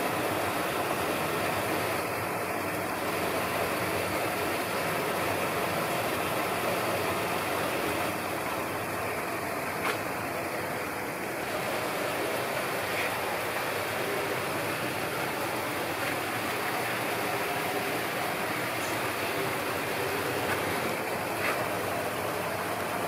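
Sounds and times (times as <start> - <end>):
running water rushing: 0.0 - 23.0.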